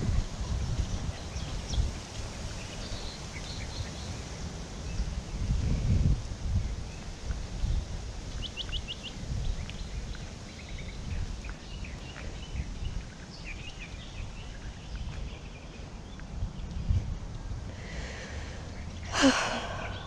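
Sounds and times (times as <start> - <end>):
small birds chirping: 0.4 - 5.8, 6.7 - 20.0.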